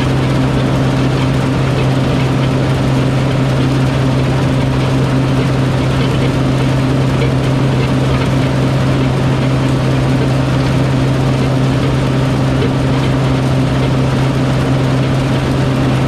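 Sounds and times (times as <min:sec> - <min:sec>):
farm machine engine humming: 0:00.0 - 0:16.0.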